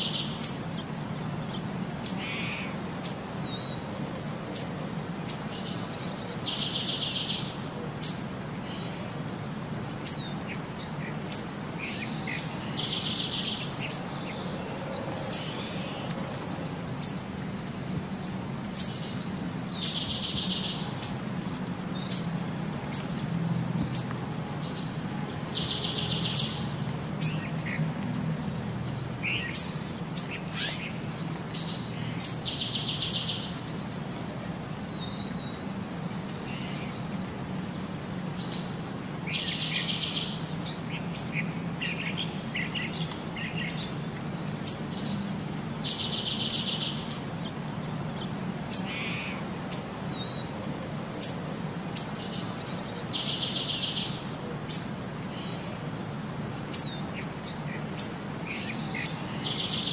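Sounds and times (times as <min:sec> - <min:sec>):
birds chirping: 0:00.0 - 0:09.2, 0:09.8 - 0:23.2, 0:23.8 - 0:34.0, 0:34.8 - 0:59.9.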